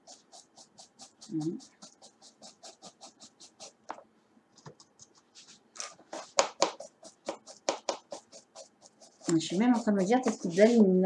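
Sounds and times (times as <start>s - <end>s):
paintbrush bristles scrubbing: 0.0s - 3.8s, 5.3s - 11.0s.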